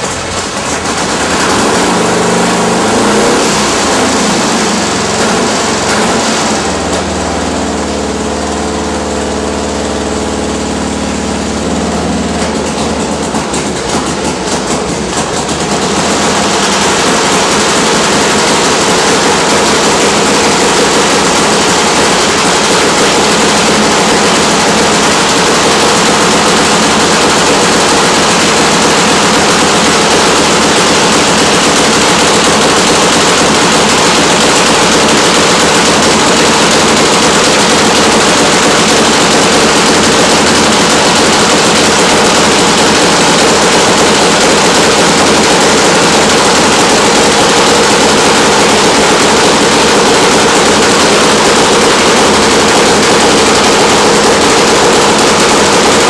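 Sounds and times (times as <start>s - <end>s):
drag bike engine exhaust bangs: 0.0s - 56.0s.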